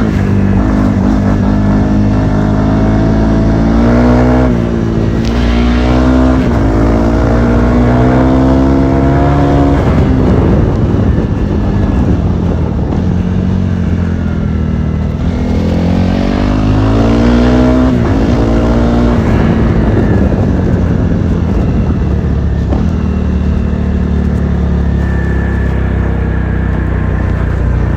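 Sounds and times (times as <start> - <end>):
motorcycle engine accelerating: 0.0 - 27.9.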